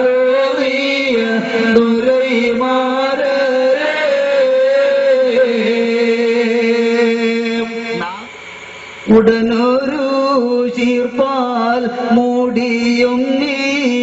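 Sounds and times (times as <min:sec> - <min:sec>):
men singing devotional song: 0:00.0 - 0:14.0.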